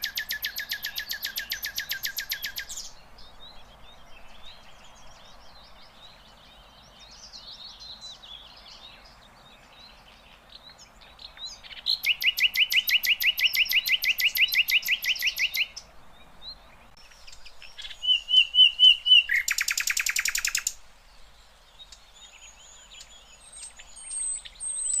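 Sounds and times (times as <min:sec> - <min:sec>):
bird singing fast trill: 0:00.0 - 0:25.0.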